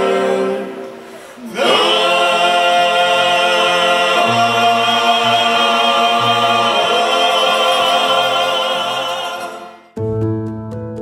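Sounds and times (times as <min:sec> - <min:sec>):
sustained sung chords: 0:00.0 - 0:10.0.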